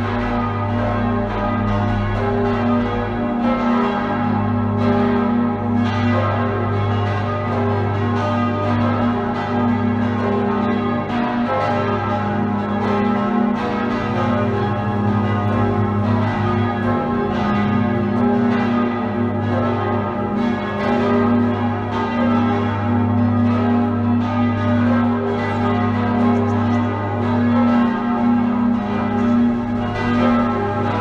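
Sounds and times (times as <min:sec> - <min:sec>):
church bells pealing: 0:00.0 - 0:31.0
deep hum of large bells: 0:00.0 - 0:31.0.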